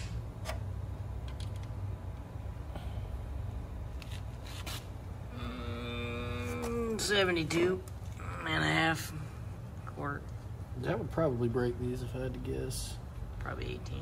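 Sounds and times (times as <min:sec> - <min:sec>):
low steady hum: 0:00.0 - 0:14.0
steady pitched hum: 0:00.0 - 0:14.0.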